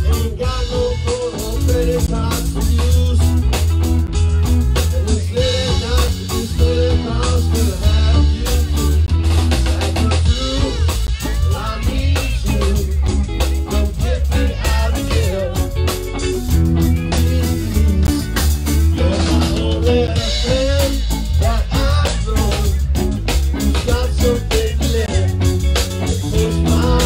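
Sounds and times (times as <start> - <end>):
bass guitar: 0.0 - 27.0
drum kit beat: 0.0 - 27.0
electric guitars: 0.0 - 27.0.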